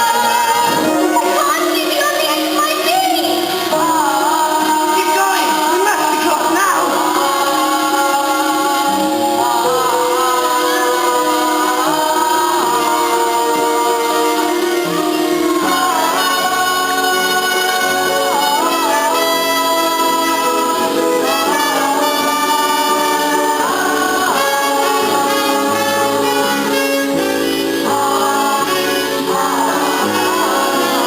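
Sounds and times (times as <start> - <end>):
instrumental accompaniment: 0.0 - 31.0
people singing: 0.0 - 31.0.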